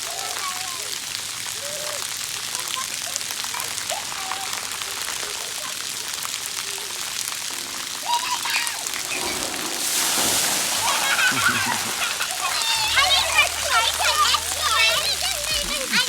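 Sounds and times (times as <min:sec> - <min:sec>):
children shouting and squealing: 0:00.0 - 0:07.2, 0:07.8 - 0:16.0
water jets spraying: 0:00.0 - 0:16.0.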